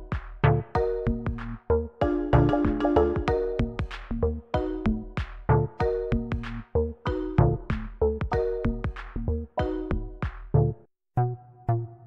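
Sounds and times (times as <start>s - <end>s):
electronic music with steady beat: 0.0s - 10.7s.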